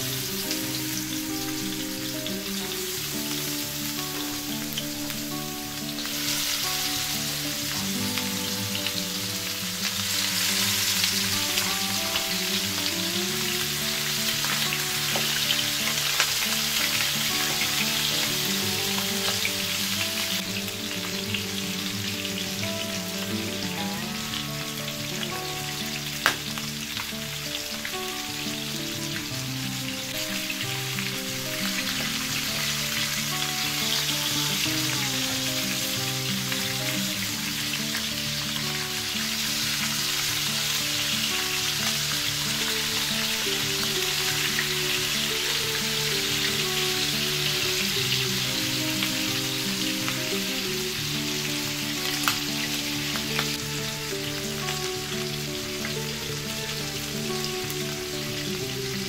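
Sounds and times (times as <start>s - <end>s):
chicken sizzling in oil: 0.0s - 59.0s
soft background music: 0.0s - 59.0s.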